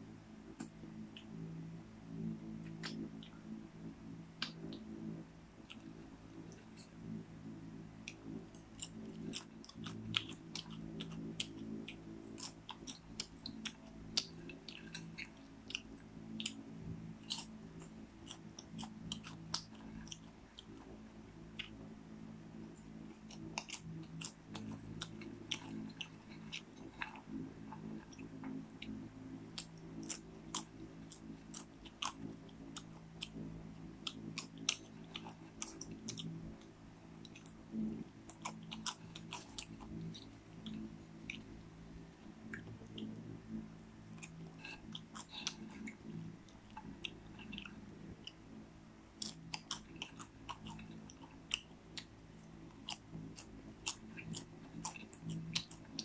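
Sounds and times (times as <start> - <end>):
low steady hum: 0.0 - 56.0
popcorn crunching while chewed: 2.6 - 3.4, 5.6 - 7.2, 8.0 - 21.9, 22.6 - 48.5, 49.1 - 56.0.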